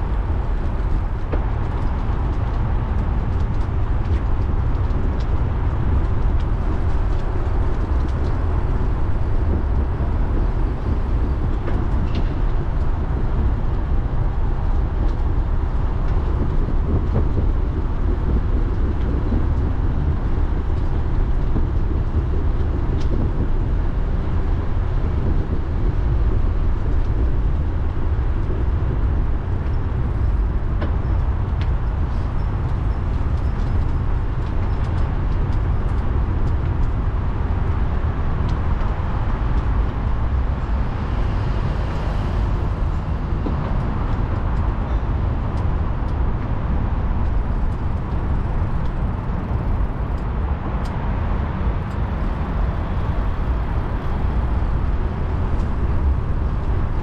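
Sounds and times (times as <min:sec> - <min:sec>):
bicycle tyres rolling on path: 0:00.0 - 0:57.0.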